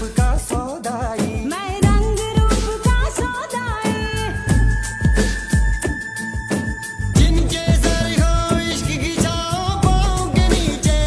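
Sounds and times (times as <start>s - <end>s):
song with sung melody and drums: 0.0s - 11.0s.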